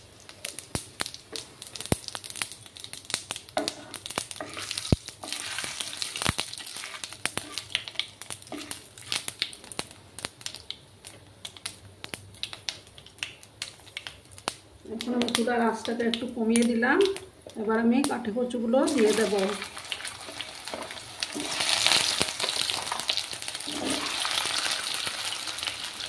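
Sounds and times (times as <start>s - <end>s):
seeds spluttering in hot oil: 0.0s - 18.2s, 18.8s - 26.0s.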